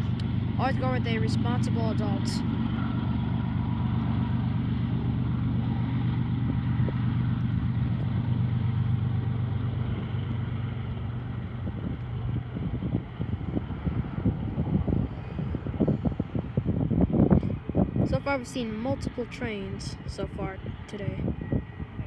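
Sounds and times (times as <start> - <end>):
diesel locomotive engine drone: 0.0 - 22.0
passing train rumble: 0.0 - 22.0.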